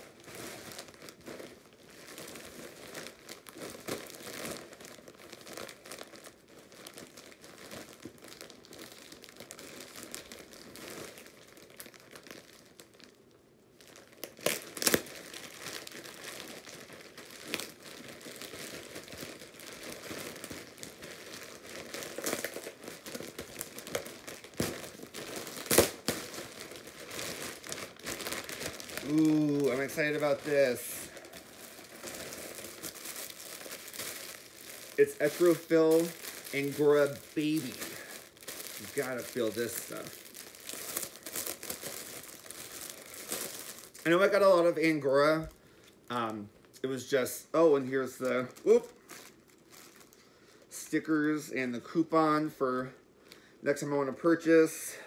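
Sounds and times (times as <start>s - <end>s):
plastic bag crinkling: 0.0s - 52.9s.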